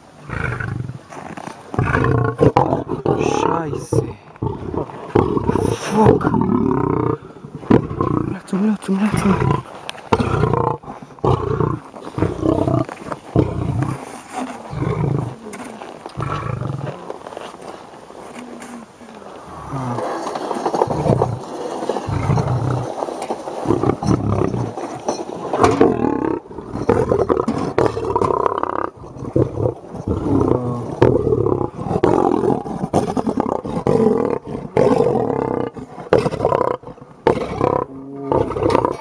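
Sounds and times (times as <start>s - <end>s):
lion roaring and growling: 0.0s - 17.1s, 19.4s - 23.0s, 23.6s - 39.0s.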